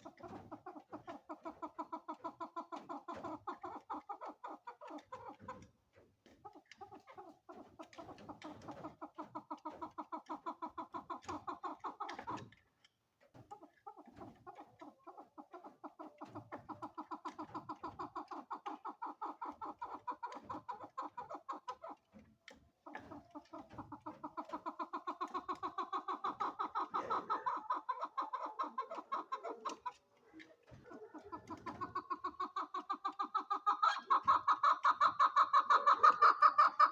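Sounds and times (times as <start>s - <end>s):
partridge clucking calls: 0.0s - 36.9s.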